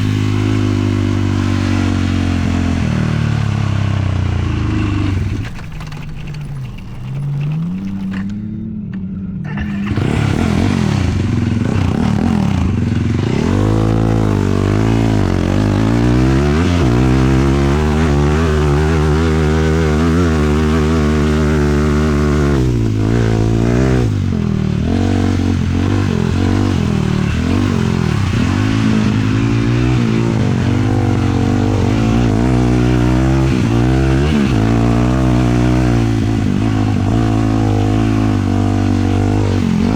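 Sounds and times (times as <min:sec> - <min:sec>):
quad engine revving: 0:00.0 - 0:08.5, 0:09.4 - 0:39.9.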